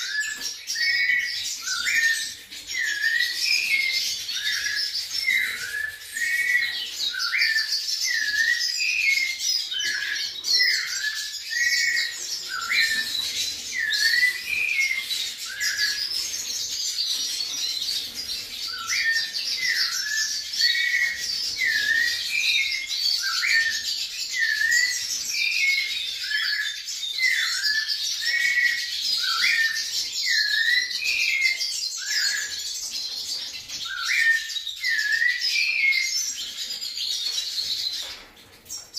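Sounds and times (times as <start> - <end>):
thrush whistling song: 0.0 - 36.4.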